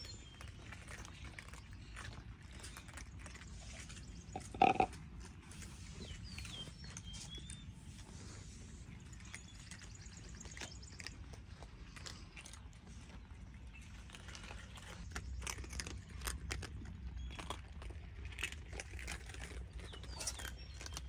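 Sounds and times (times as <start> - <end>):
cats crunching dry kibble: 0.0 - 21.0.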